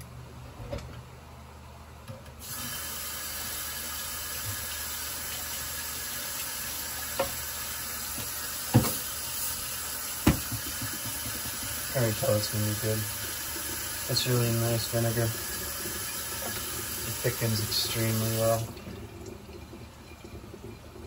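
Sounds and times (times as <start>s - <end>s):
tap water running: 2.4s - 21.0s.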